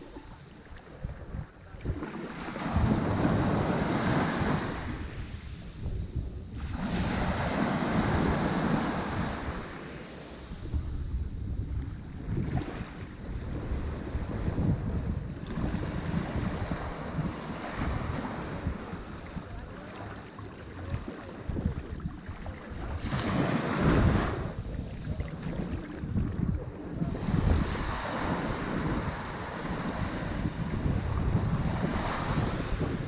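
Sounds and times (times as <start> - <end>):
ocean waves breaking: 0.0 - 33.0
wind buffeting microphone: 0.0 - 33.0.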